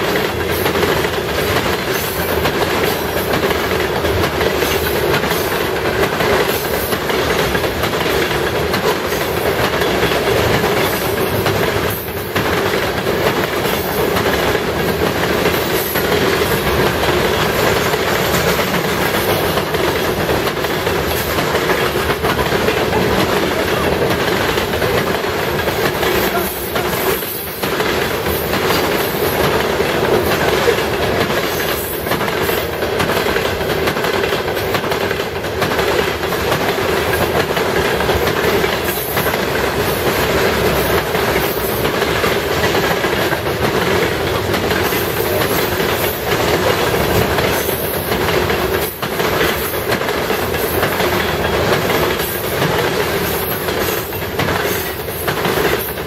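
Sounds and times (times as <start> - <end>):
freight train wheels rumbling: 0.0 - 56.0
wheels clicking over rail joints: 0.0 - 56.0.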